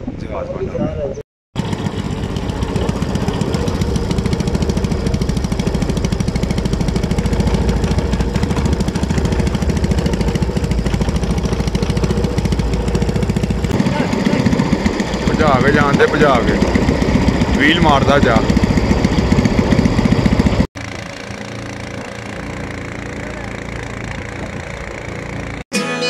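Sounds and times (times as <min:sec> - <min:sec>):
small boat engine running: 0:01.6 - 0:25.6.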